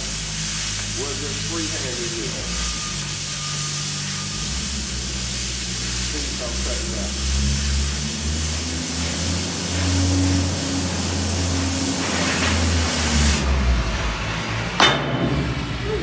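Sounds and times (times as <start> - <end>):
cutting torch hissing: 0.0 - 13.6.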